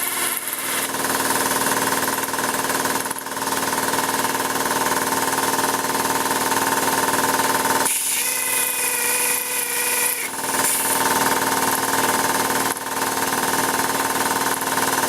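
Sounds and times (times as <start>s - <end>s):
power tool motor humming: 0.0s - 14.6s.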